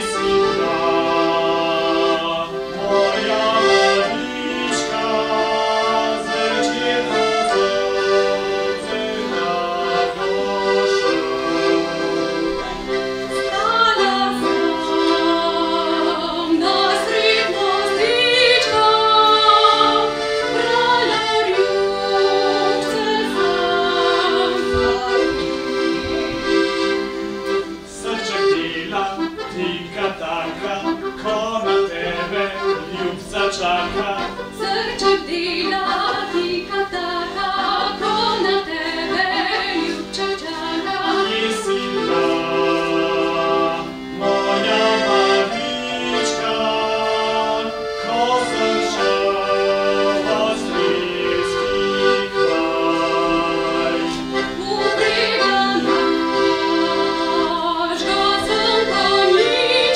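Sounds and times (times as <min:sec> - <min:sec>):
accordion playing a tune: 0:00.0 - 0:59.9.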